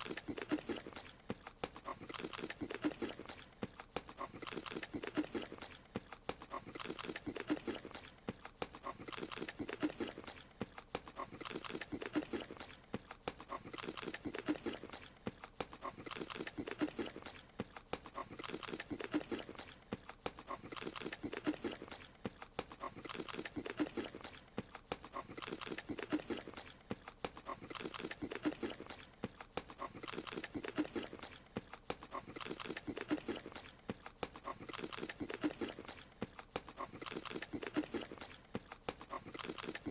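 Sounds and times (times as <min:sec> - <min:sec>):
cartoon wet chomping and munching: 0:00.0 - 0:39.9.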